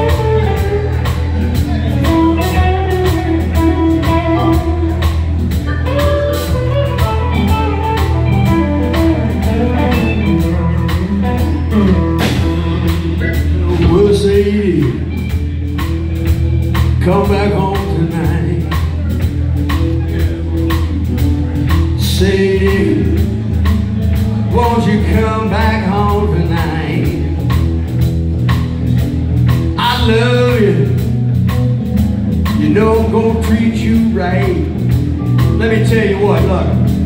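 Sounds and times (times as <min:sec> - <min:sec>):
drum kit: 0:00.0 - 0:37.0
electric lead guitar bending notes: 0:00.0 - 0:37.0
keyboard: 0:00.0 - 0:37.0
steady bass line: 0:00.0 - 0:37.0.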